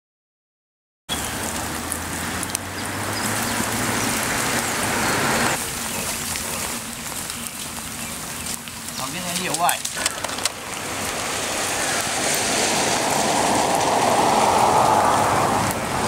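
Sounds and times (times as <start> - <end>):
light rain: 1.1 - 16.0
low engine hum: 1.1 - 16.0.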